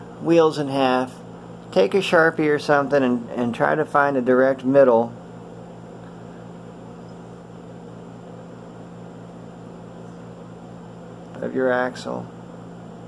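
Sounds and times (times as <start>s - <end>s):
room hum with faint hiss: 0.0s - 13.0s.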